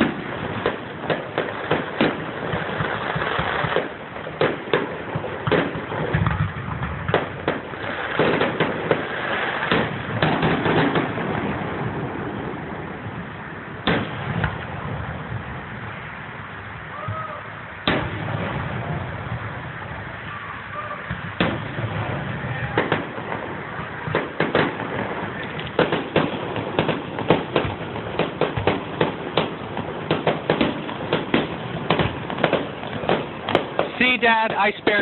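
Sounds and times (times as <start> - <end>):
firework bangs: 0.0 - 35.0
firework crackling pops: 0.0 - 35.0.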